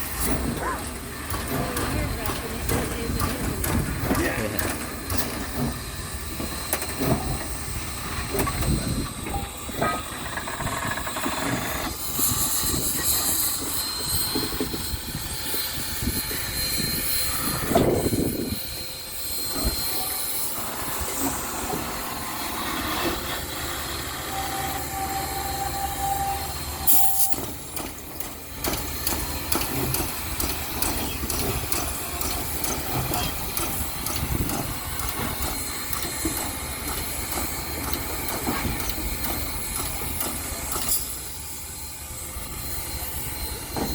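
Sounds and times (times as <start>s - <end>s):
steam hissing: 0.0s - 43.9s
train wheels clicking: 0.0s - 43.9s.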